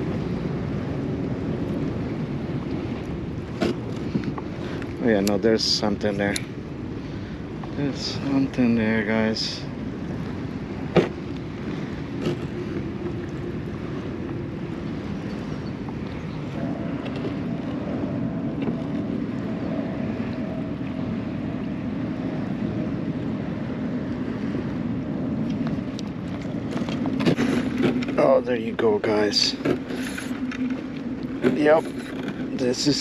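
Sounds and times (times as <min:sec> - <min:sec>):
low hum: 0:00.0 - 0:33.0
water around kayak: 0:00.0 - 0:33.0
wind on microphone: 0:00.0 - 0:33.0.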